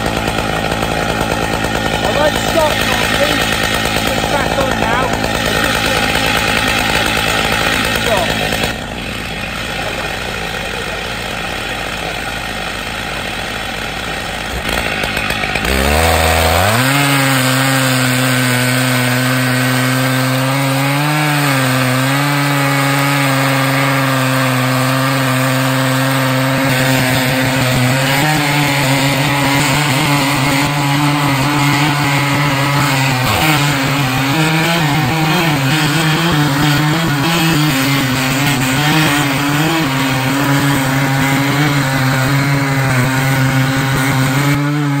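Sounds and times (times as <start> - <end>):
chainsaw cutting log: 0.0 - 45.0.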